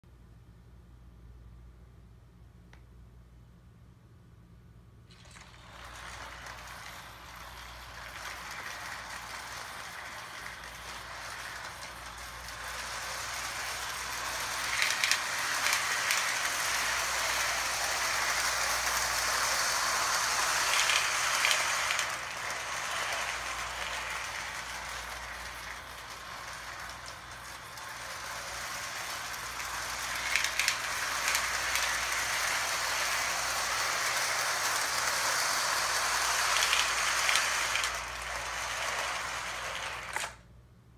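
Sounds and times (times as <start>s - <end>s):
toy train motor whirring: 5.1s - 40.4s
wheels clicking over track joints: 5.1s - 40.4s.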